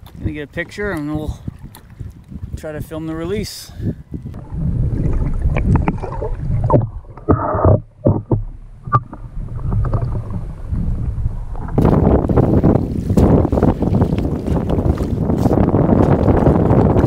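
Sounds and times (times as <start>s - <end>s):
underwater sloshing and knocking: 0.0s - 2.6s, 4.1s - 17.0s
wind and water rushing: 0.0s - 17.0s.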